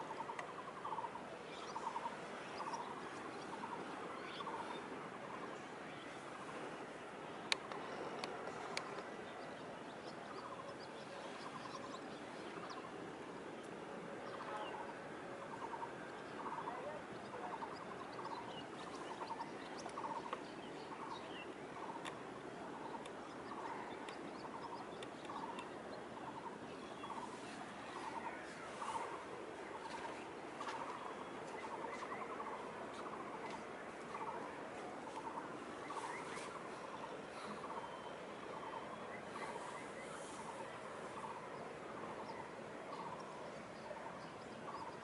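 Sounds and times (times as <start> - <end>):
outdoor background hiss: 0.0 - 45.0.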